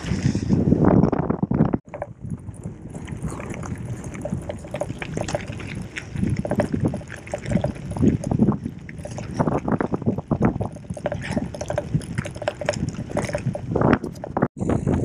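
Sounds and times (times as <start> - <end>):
wind buffeting microphone: 0.0 - 15.0
bike rattling: 1.1 - 15.0.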